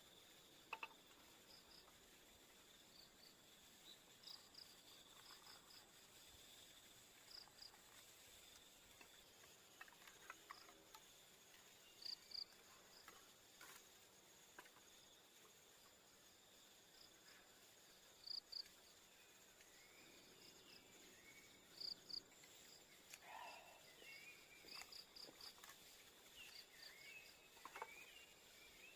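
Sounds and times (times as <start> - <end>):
insect chirps: 0.0 - 28.9
insect drone: 0.0 - 28.9.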